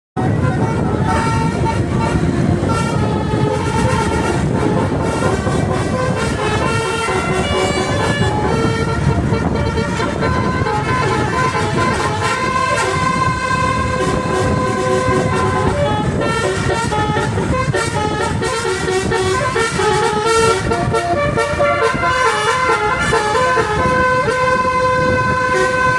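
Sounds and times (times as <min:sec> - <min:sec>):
low rumble: 0:00.2 - 0:22.2
multi-tone bus horn melody: 0:00.2 - 0:25.9.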